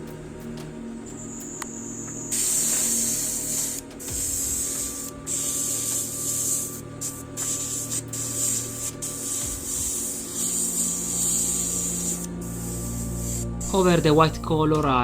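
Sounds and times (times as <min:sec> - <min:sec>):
airbrush hissing: 0:01.1 - 0:14.5.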